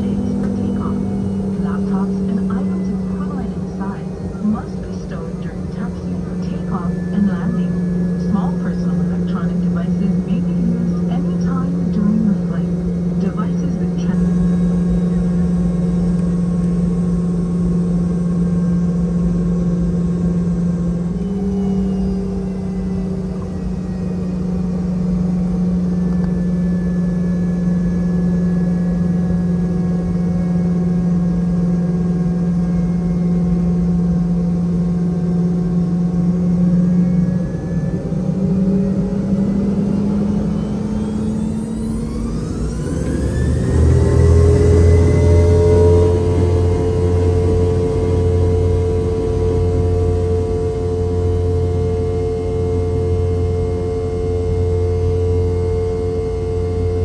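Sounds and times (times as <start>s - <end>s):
jet engines droning and whining: 0.0s - 57.0s.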